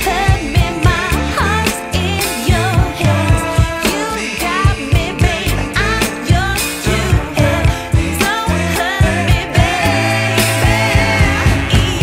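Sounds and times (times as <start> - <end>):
drum beat and bass: 0.0 - 12.0
person singing: 0.0 - 12.0.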